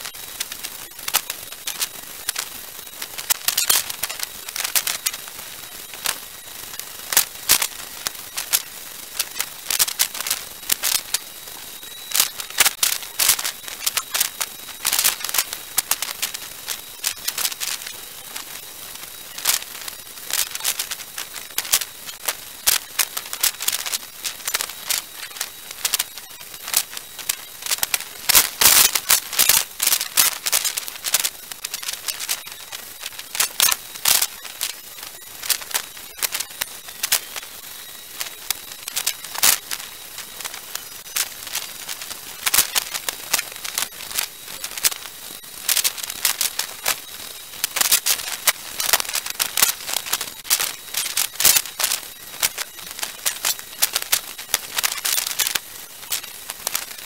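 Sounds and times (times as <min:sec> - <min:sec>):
crackling clicks and pops: 0:00.0 - 0:57.0
steady hiss: 0:00.0 - 0:57.0.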